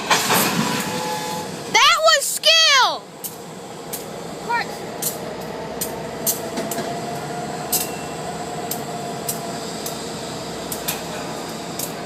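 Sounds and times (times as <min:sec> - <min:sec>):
locomotive engine hum: 0:00.0 - 0:12.0.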